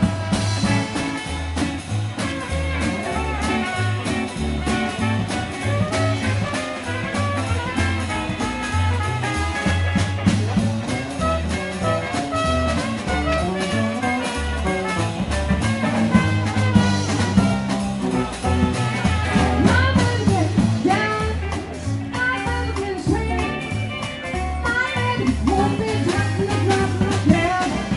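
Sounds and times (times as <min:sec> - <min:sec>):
swing jazz dance music: 0:00.0 - 0:27.9.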